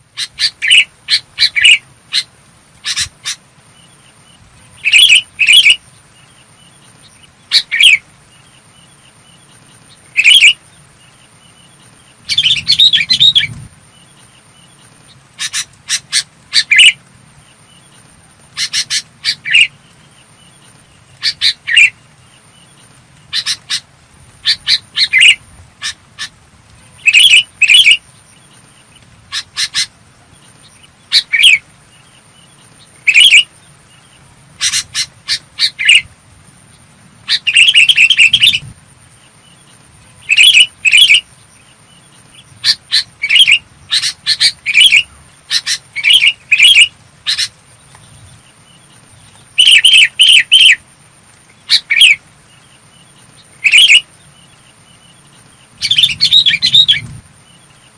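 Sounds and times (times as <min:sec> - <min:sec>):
bird calling with whistled notes: 0:00.0 - 0:17.0, 0:17.7 - 0:22.0, 0:22.6 - 0:26.4, 0:27.0 - 0:33.6, 0:34.6 - 0:36.1, 0:37.2 - 0:38.7, 0:39.4 - 0:50.8, 0:51.6 - 0:57.9.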